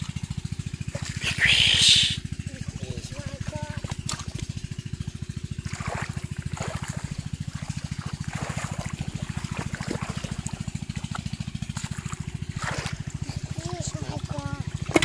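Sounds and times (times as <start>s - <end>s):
shallow water splashing: 0.0s - 15.0s
small engine throbbing: 0.0s - 15.0s.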